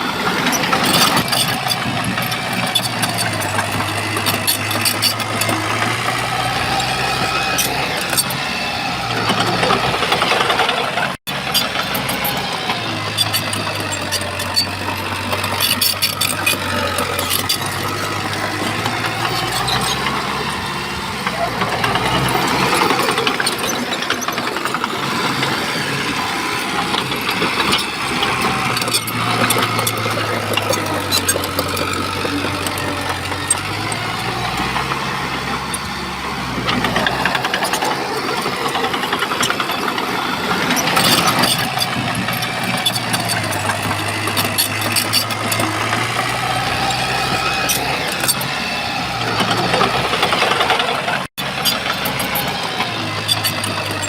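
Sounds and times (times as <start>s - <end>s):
bulldozer diesel engine: 0.0s - 54.0s
metallic clanks and rattles: 0.4s - 54.0s.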